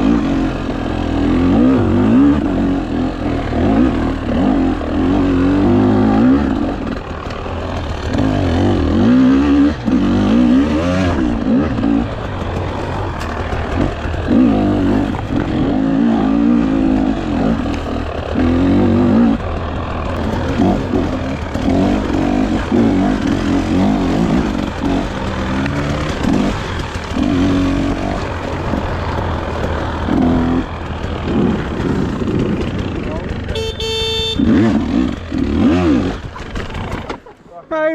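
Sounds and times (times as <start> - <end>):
dirt bike engine revving: 0.0 - 37.3.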